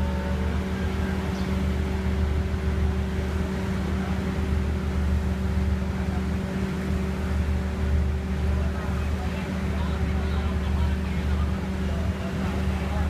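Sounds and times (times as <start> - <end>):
train running drone: 0.0 - 13.0.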